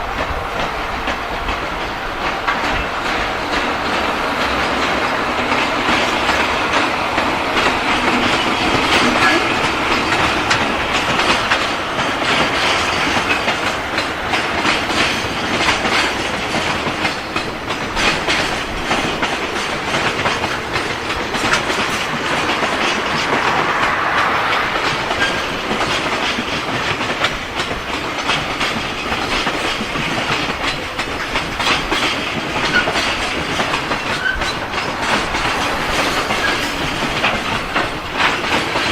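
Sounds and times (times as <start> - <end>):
freight train wagons rolling past: 0.0 - 38.9
wheels clicking over rail joints: 0.0 - 38.9.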